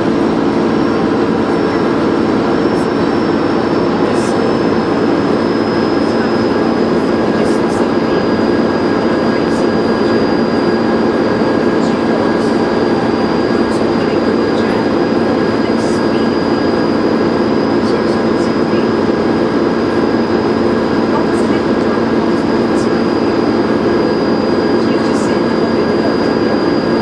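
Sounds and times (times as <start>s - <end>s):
bus engine running: 0.0s - 27.0s.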